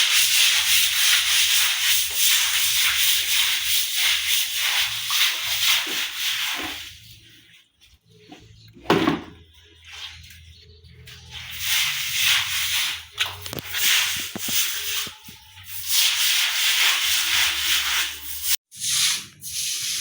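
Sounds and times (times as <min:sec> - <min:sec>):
broom scrubbing wet floor: 0:00.0 - 0:08.5, 0:09.2 - 0:20.0.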